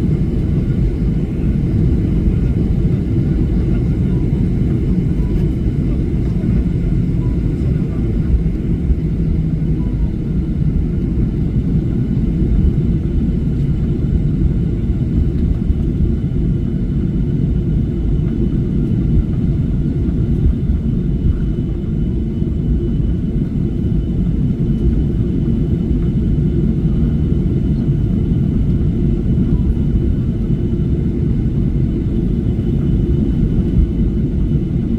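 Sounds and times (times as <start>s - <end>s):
airliner cabin jet engine rumble: 0.0s - 34.9s.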